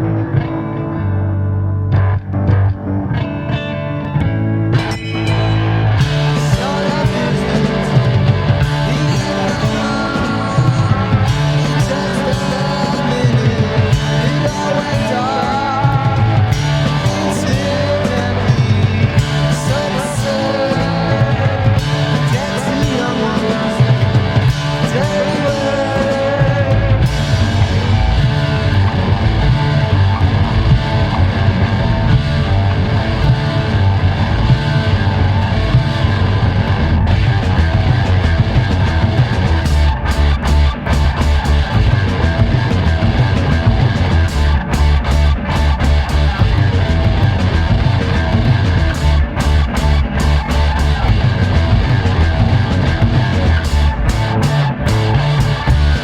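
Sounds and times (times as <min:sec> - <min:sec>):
rock song with guitars and drums: 0:00.0 - 0:56.0.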